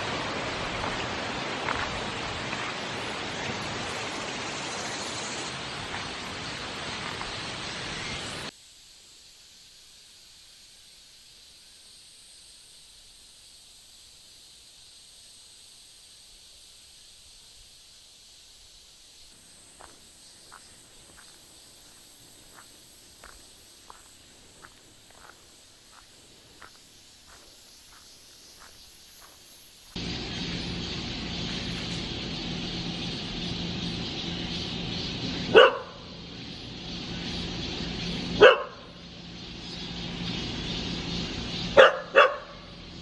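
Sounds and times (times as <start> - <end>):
insects hissing: 0.0 - 43.0.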